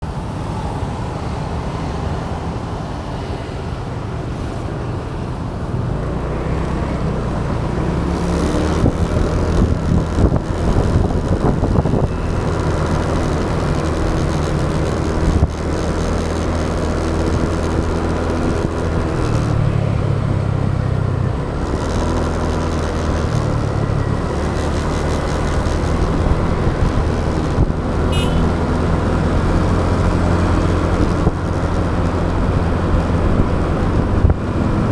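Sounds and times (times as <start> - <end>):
road noise: 0.0 - 34.9
wind: 0.0 - 34.9
motorbike engine running: 6.7 - 34.9.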